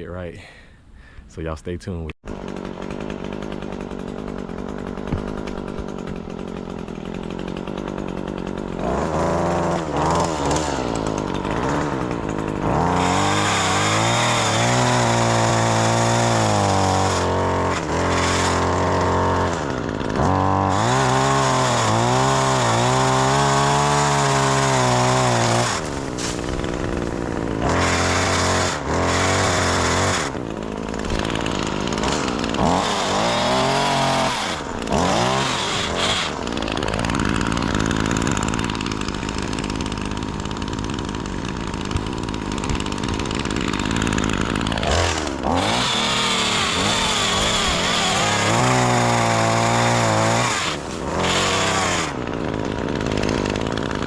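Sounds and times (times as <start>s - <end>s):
chainsaw cutting branches: 2.2s - 54.0s.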